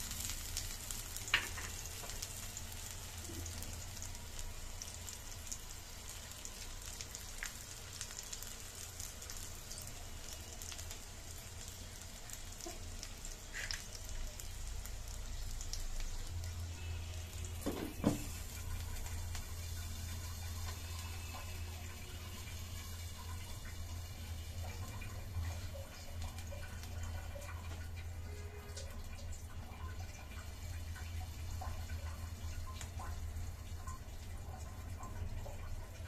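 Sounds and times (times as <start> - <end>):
oil sizzling and crackling: 0.0 - 36.0.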